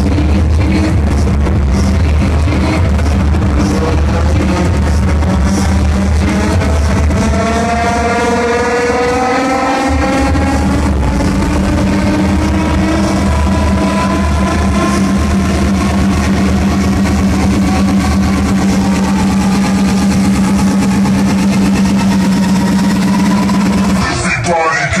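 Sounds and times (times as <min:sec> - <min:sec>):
rising synth line: 0:00.0 - 0:24.5
electronic dance music: 0:00.0 - 0:25.0.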